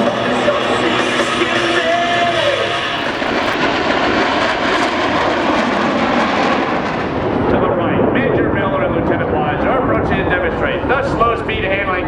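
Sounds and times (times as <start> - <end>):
jets roaring past: 0.0 - 12.0.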